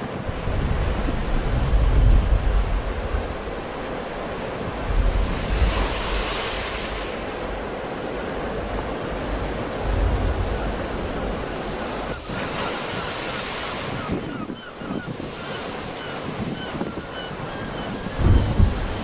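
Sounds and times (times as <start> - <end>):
sea waves breaking on shore: 0.0 - 19.0
wind buffeting microphone: 0.0 - 19.0.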